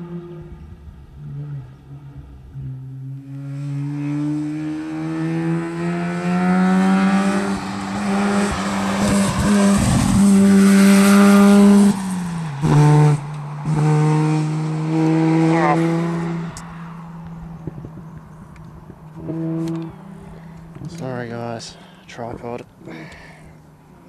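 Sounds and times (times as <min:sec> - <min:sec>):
rally car engine accelerating: 0:00.0 - 0:21.1.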